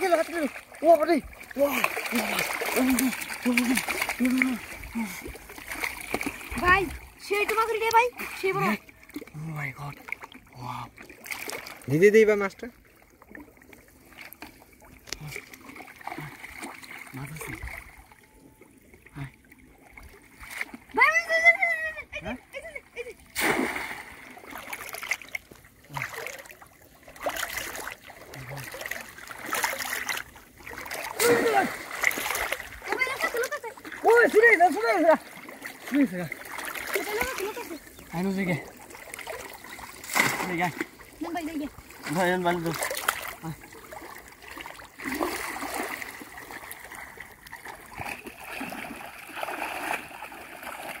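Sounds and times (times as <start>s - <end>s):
water sloshing around waders: 0.0s - 51.0s.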